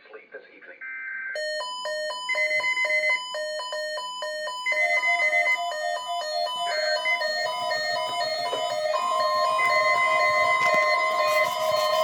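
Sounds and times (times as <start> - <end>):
electronic chime melody: 1.4 - 12.0.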